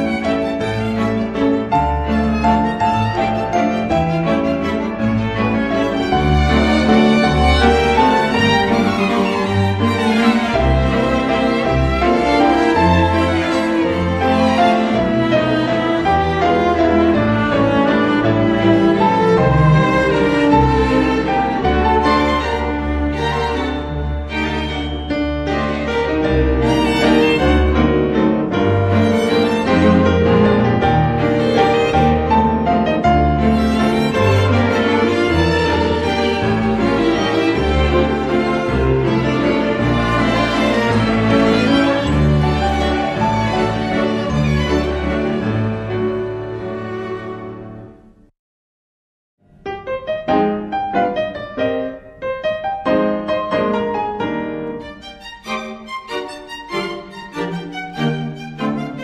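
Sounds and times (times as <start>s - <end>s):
piano music: 0.0s - 48.3s, 49.4s - 59.0s.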